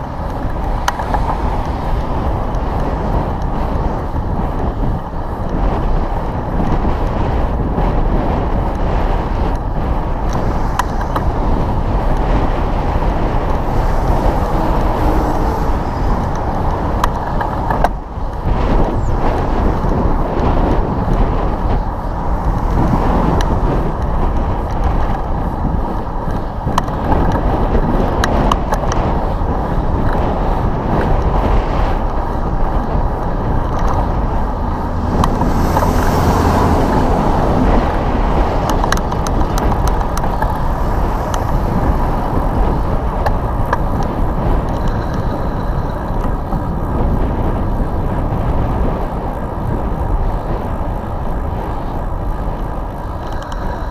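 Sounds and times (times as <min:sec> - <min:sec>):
motor traffic: 0:00.0 - 0:53.9
vehicle passing with low hum: 0:00.0 - 0:53.9
wind buffeting microphone: 0:00.0 - 0:53.9.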